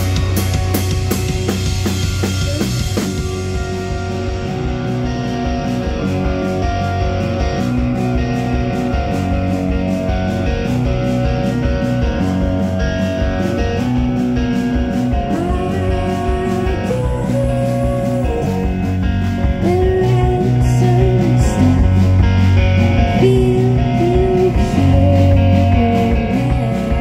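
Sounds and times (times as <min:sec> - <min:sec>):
electric guitars sustained notes: 0:00.0 - 0:27.0
steady drum beat: 0:00.0 - 0:27.0.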